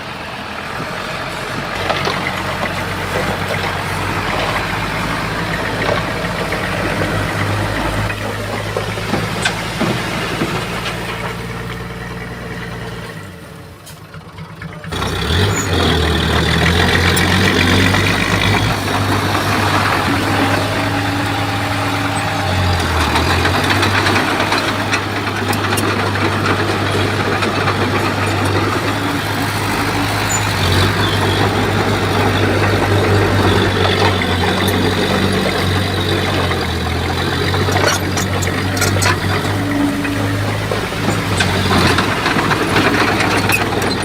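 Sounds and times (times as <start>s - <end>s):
bulldozer engine running: 0.0s - 44.0s.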